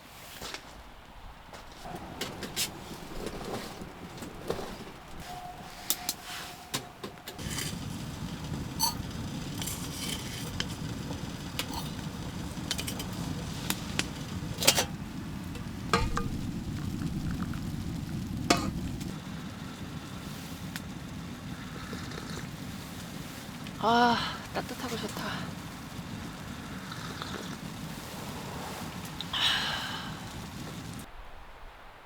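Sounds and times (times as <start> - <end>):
fire crackling: 0.2 - 32.0
wood stove fire rushing: 0.5 - 31.1.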